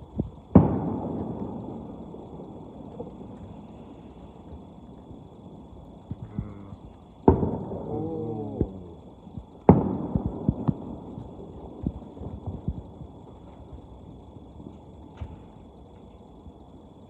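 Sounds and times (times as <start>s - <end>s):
small fireworks pops: 0.0s - 5.3s, 6.0s - 7.9s, 8.6s - 16.3s
distant fireworks bursting: 0.0s - 16.1s.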